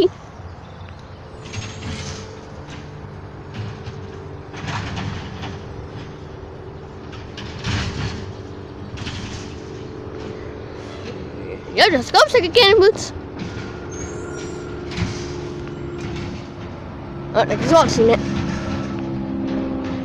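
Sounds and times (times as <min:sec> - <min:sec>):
garbage truck running: 0:00.0 - 0:20.0
hissing and clattering machinery: 0:01.3 - 0:11.2, 0:11.8 - 0:20.0.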